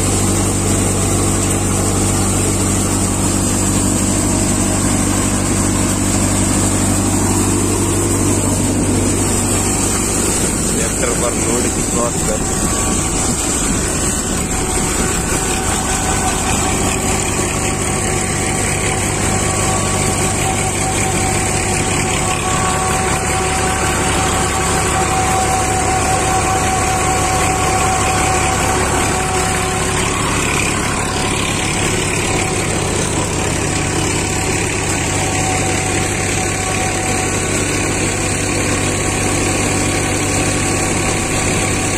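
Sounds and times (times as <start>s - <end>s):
thresher machine drone: 0.0s - 41.9s.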